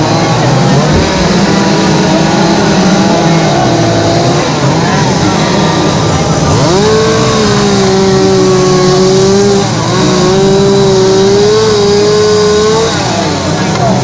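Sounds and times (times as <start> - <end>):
chainsaw carving wood: 0.0 - 14.0.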